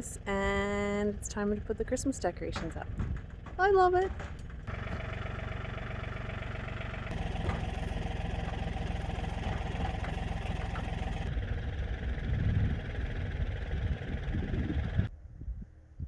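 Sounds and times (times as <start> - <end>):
engine running steadily: 0.0 - 15.1.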